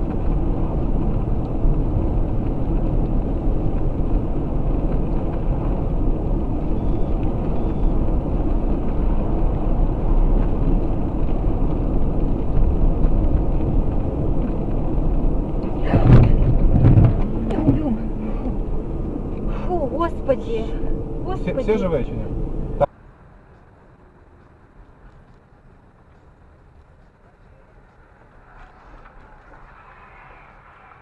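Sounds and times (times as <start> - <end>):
car driving noise from inside: 0.0 - 22.9, 27.2 - 31.0.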